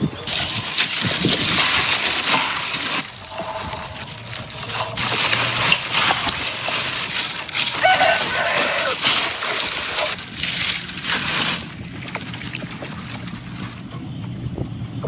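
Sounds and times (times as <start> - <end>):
fish deep-frying sizzle: 0.3 - 13.8.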